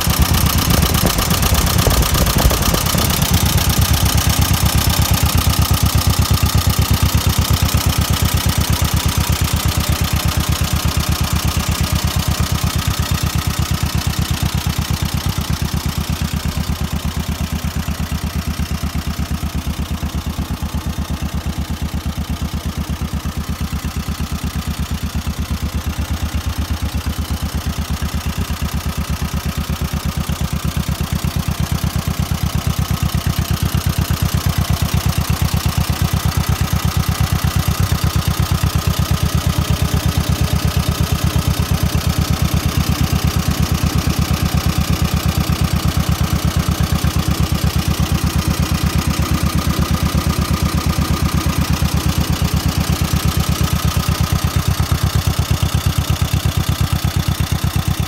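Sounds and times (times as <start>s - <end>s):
tractor engine idling: 0.0s - 58.0s.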